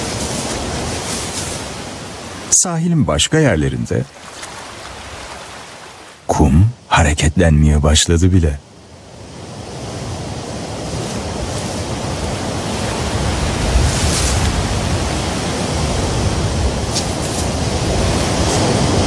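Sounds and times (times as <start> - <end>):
surf washing on beach: 0.0 - 6.3, 8.6 - 19.0.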